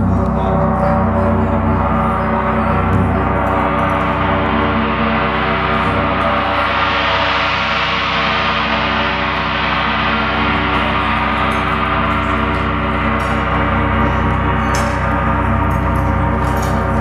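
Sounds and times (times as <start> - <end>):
gong ringing: 0.0 - 17.0.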